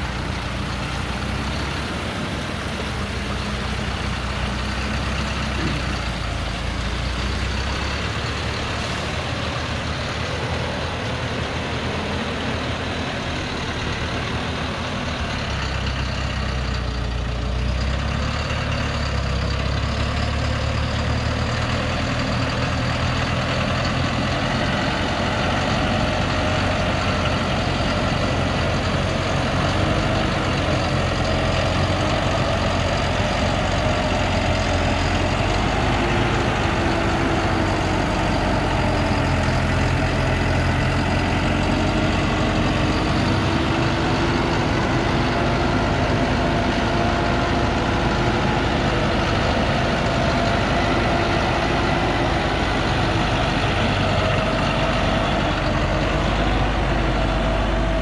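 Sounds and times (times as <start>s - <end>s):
truck engine at low revs: 0.0s - 58.0s.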